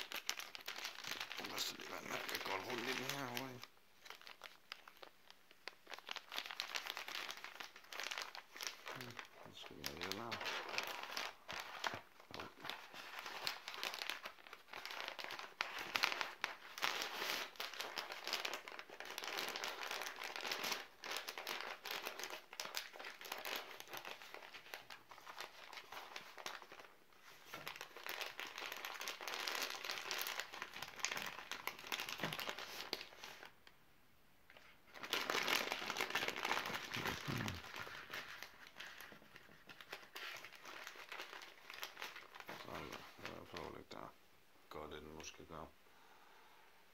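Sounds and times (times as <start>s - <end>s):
plastic and cardboard crinkling: 0.0s - 33.6s, 34.5s - 44.1s.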